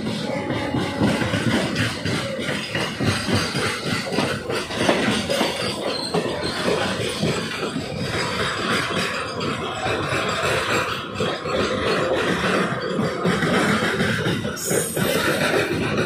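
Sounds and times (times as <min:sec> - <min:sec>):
freight train passing: 0:00.0 - 0:16.0.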